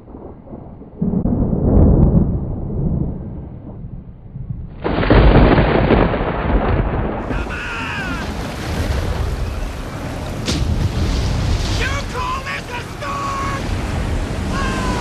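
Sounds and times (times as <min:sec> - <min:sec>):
loud thunderclap: 0:00.0 - 0:15.0
thunder rumbling: 0:00.0 - 0:15.0.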